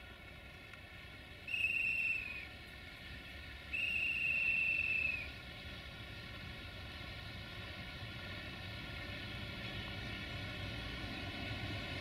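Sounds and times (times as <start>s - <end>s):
diesel engine rumbling and droning: 0.0s - 12.0s.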